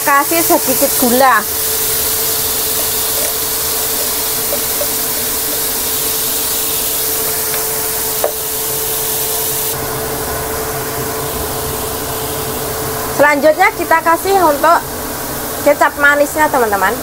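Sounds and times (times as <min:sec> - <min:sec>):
steady low hum: 0:00.0 - 0:14.0
food sizzling in a wok: 0:00.0 - 0:17.0.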